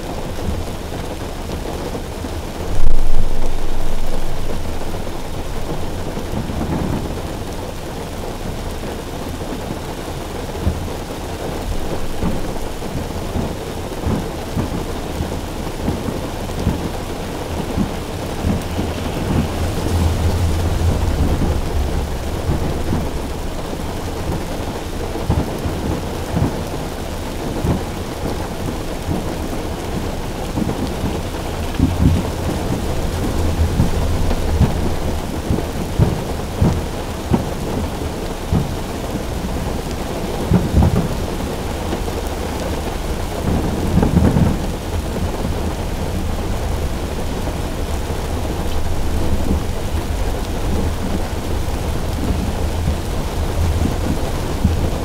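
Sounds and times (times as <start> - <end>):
rain on a car roof: 0.0 - 55.0
thunder rumbling: 0.0 - 55.0.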